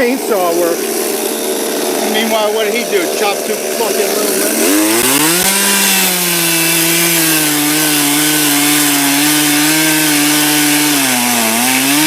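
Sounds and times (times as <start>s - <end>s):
chainsaw cutting through wood: 0.0s - 12.0s.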